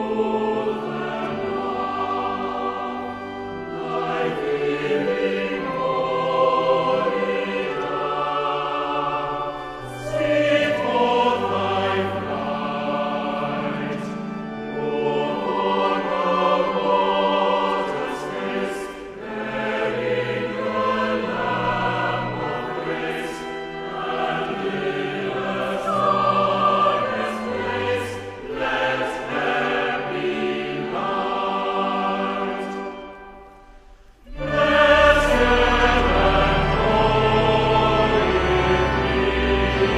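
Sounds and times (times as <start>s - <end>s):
choir singing slow hymn: 0.0s - 39.9s.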